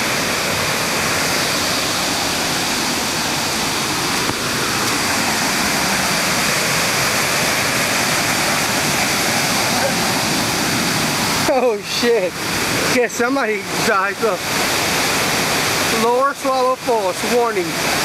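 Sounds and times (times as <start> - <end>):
creek rushing over rapids: 0.0 - 18.0.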